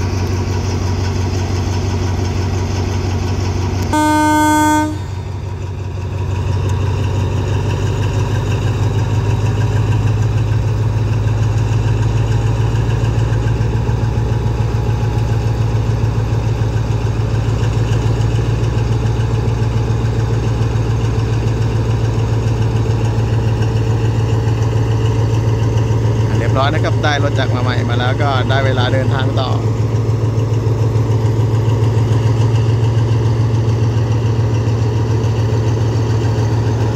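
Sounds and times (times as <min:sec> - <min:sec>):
diesel locomotive engine drone: 0:00.0 - 0:36.9.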